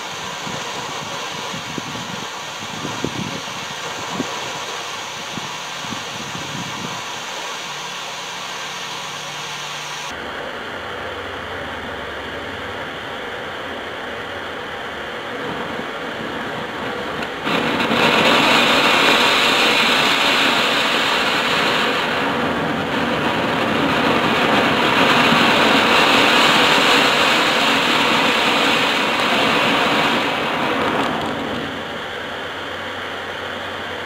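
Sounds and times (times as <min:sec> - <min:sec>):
firework fountain hissing: 0:00.0 - 0:34.0.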